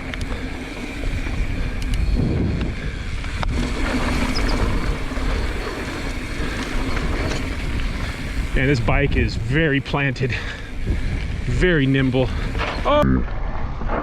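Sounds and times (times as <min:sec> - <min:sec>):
mountain bike rattling on trail: 0:00.0 - 0:14.0
wind buffeting microphone: 0:00.0 - 0:14.0.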